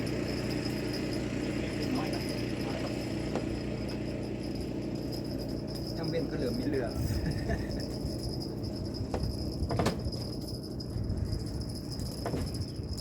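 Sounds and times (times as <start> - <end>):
high-pitched insect-like drone: 0.0 - 13.0
jingling rattles: 0.0 - 13.0
low rumbling background: 0.0 - 13.0.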